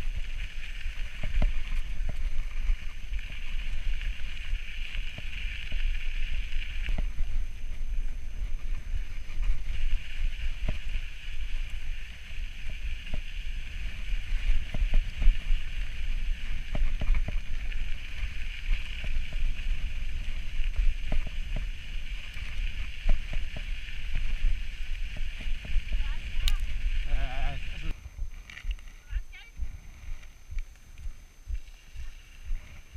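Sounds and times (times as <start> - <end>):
bike tyres crunching on gravel: 0.0 - 32.9
gravel and bike rattles: 0.0 - 32.9
wind buffeting microphone: 0.0 - 32.9.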